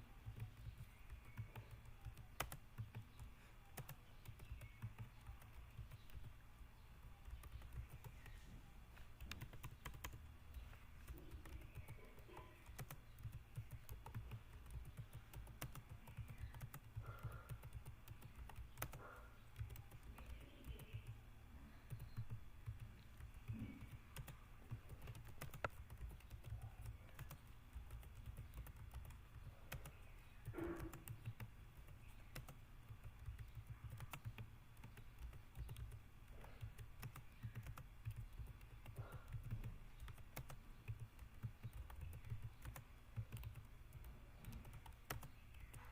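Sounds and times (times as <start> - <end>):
typing on a computer keyboard: 0.2 - 6.4, 7.0 - 8.4, 9.0 - 21.2, 21.8 - 45.9.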